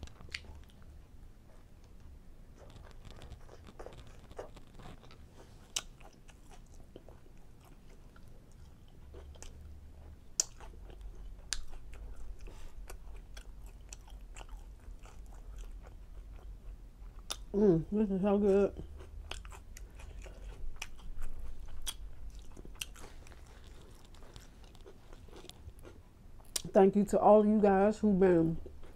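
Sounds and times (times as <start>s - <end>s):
close chewing mouth sounds: 0.0s - 17.6s, 18.2s - 26.7s, 28.6s - 28.9s.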